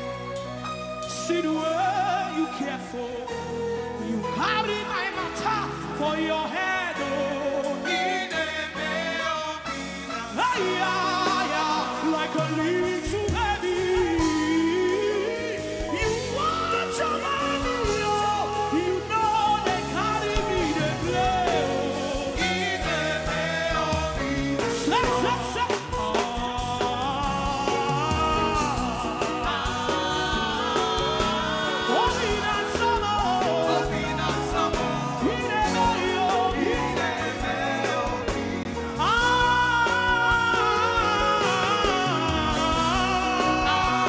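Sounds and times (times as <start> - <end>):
gospel band with drums and keyboards: 0.0 - 44.0
person singing: 1.0 - 44.0.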